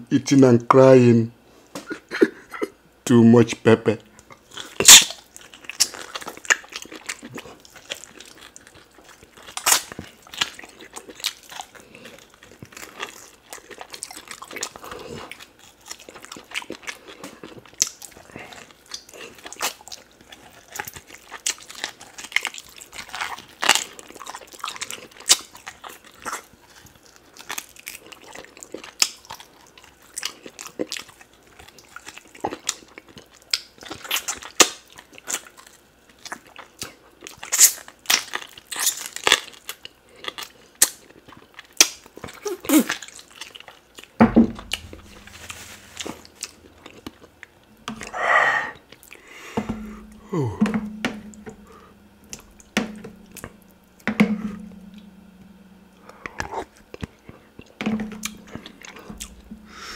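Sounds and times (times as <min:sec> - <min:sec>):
person chewing and crunching meat: 0:04.2 - 0:59.9.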